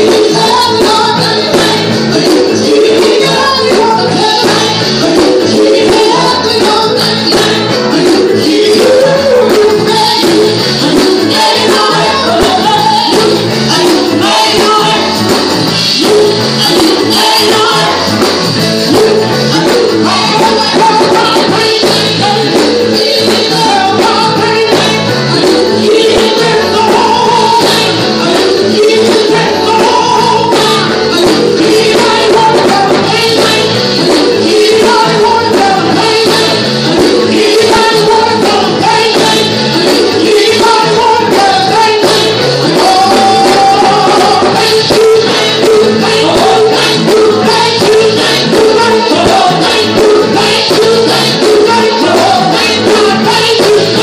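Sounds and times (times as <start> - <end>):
band playing: 0.0 - 54.0
women's vocal group singing gospel: 0.0 - 54.0.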